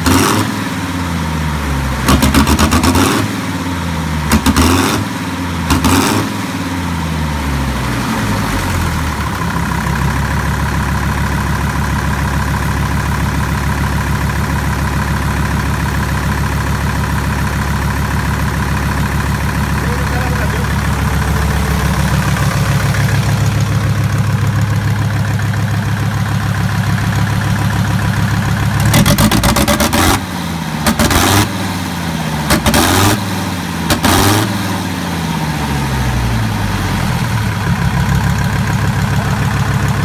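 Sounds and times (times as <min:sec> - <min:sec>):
diesel engine idling and revving: 0:00.0 - 0:40.0.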